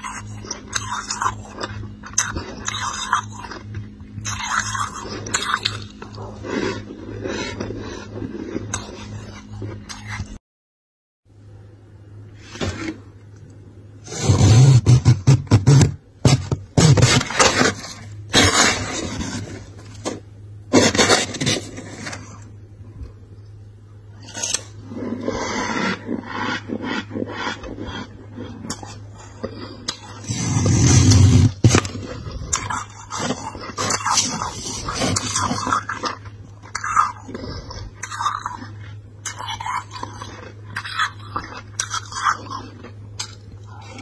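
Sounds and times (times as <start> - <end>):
low steady hum: 0.0 - 10.4, 11.3 - 44.0
spoon scraping freezer frost: 0.0 - 10.4, 14.0 - 22.5, 24.2 - 44.0.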